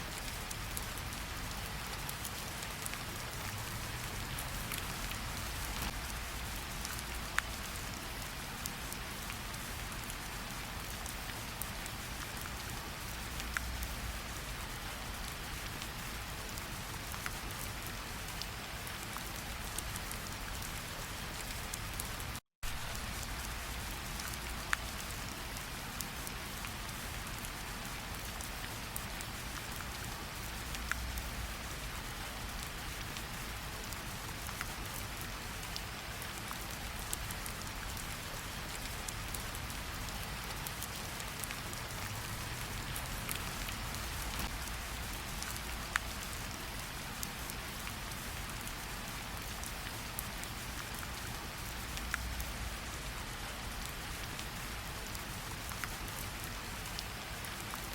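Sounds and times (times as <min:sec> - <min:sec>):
rain pattering on ground and water: 0:00.0 - 0:57.9.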